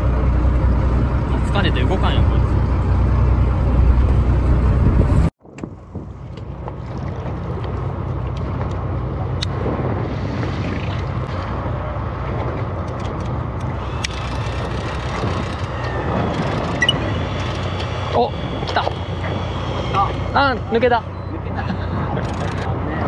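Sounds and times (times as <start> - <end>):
boat engine running: 0.0 - 23.0
wind on microphone: 0.0 - 23.0.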